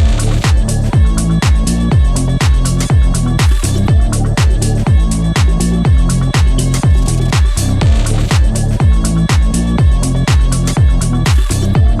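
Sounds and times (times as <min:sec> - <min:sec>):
sharp high percussion hits: 0:00.0 - 0:10.6
electronic background music: 0:00.0 - 0:12.0
steady kick drum: 0:00.0 - 0:12.0.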